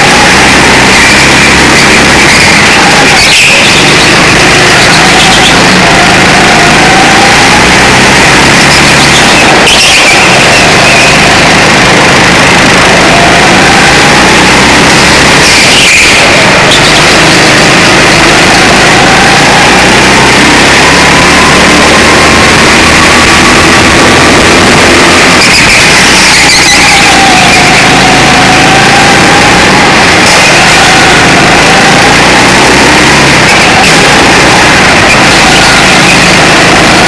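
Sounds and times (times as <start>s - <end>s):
go-kart engine at full throttle: 0.0s - 37.0s.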